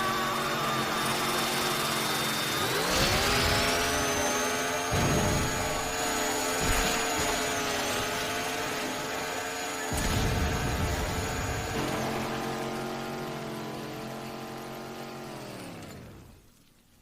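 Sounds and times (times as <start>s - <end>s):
chainsaw revving: 0.0s - 16.2s.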